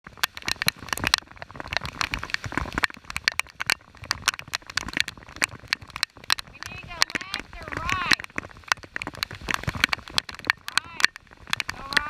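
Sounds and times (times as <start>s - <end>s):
rain hissing on river: 0.0s - 12.0s
raindrops ticking on camera housing: 0.0s - 12.0s.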